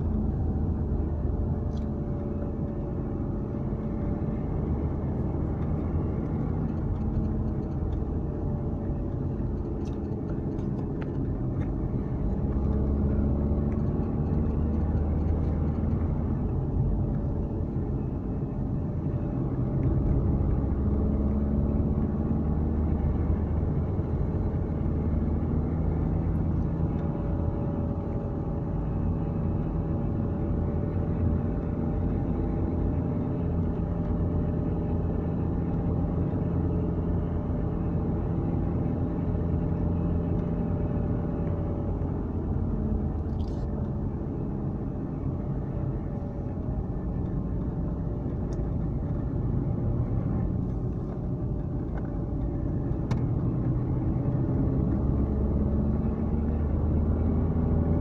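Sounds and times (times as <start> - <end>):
car engine hum: 0.0 - 58.0.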